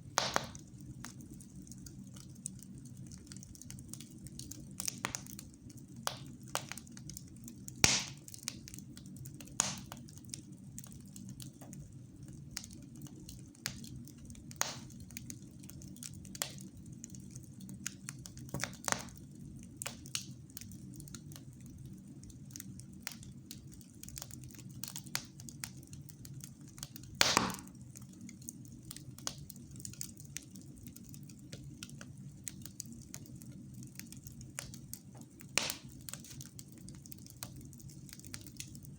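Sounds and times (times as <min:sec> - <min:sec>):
fireplace fire crackling and popping: 0:00.0 - 0:38.9.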